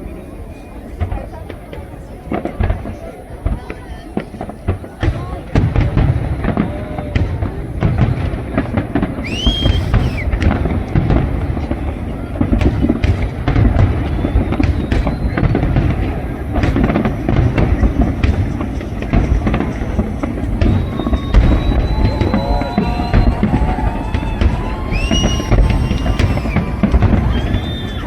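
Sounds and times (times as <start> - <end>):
fireworks bangs and crackles: 0.0 - 28.0
deep rolling fireworks booms: 0.8 - 28.0.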